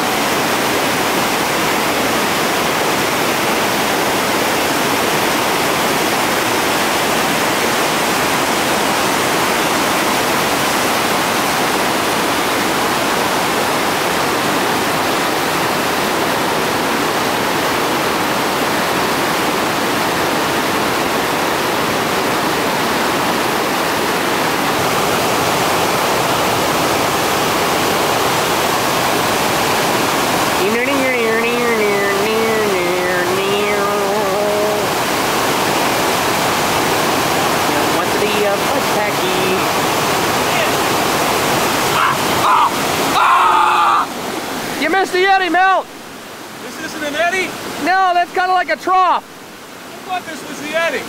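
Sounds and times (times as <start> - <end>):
whitewater rapids rushing: 0.0 - 51.0.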